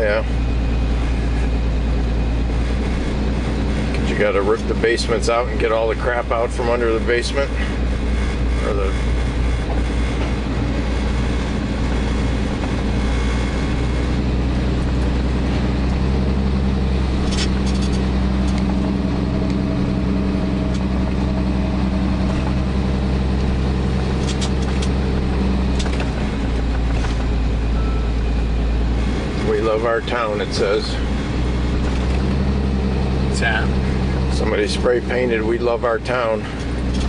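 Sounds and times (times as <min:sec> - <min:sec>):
vehicle engine and road hum: 0:00.0 - 0:37.0.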